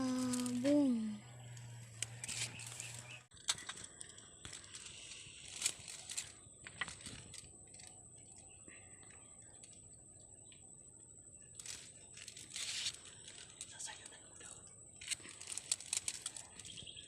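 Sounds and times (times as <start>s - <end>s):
rustling and crackling: 0.0s - 9.9s, 11.4s - 17.0s.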